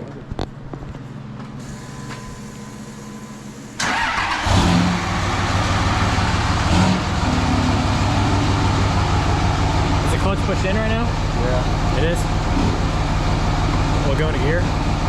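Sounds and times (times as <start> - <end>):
diesel engine starting and idling: 1.6 - 15.0.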